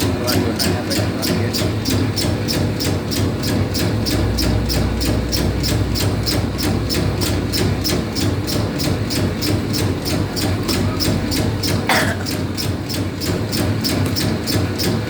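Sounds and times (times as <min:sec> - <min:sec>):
even mechanical clacking: 0:00.0 - 0:15.0
machine motor hum: 0:00.0 - 0:15.0.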